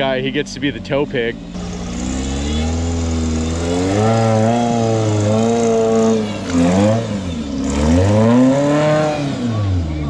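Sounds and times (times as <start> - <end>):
engine revving: 1.4 - 10.0.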